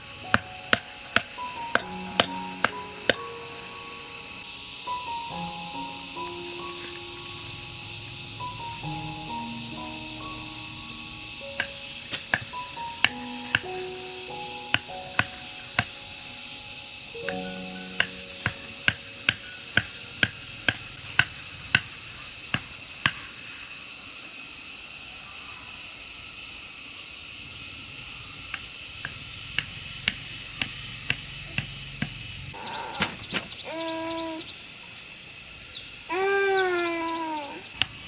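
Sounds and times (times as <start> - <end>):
high-pitched hiss: 0.0 - 38.0.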